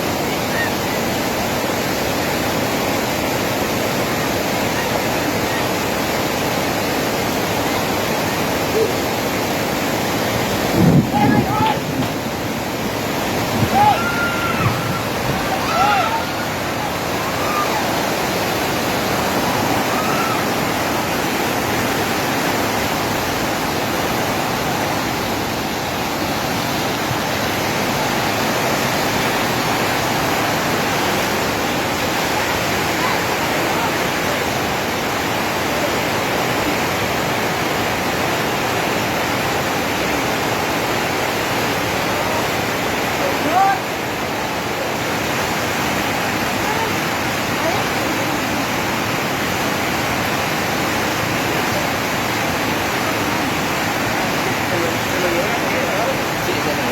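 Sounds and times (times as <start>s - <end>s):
fast-flowing water rushing: 0.0s - 56.9s.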